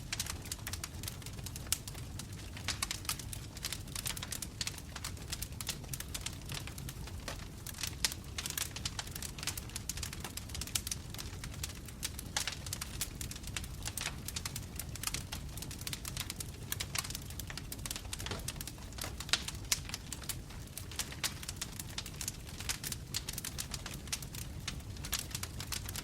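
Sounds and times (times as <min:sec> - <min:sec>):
logs crackling and popping: 0:00.0 - 0:26.0
low rumble of flames: 0:00.0 - 0:26.0.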